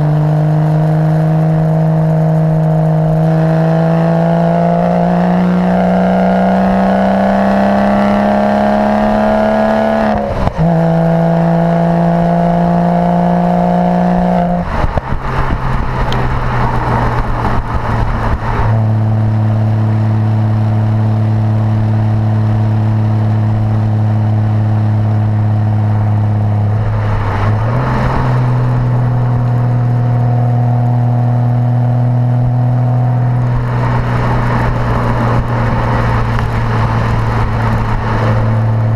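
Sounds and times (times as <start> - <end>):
exhaust crackles: 0.0 - 38.9
sports car engine accelerating: 0.0 - 38.9.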